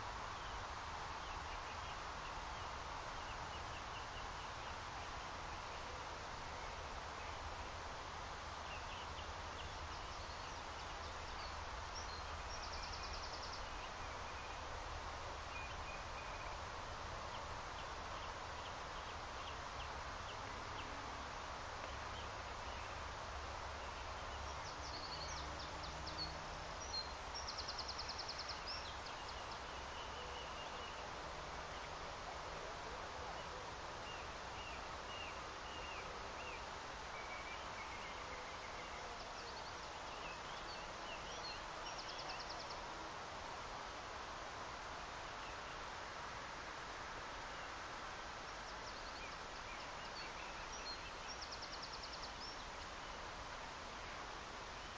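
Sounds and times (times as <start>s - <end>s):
small birds chirping: 0.0s - 32.2s, 33.2s - 43.3s, 47.4s - 54.9s
steady background hiss: 0.0s - 54.9s.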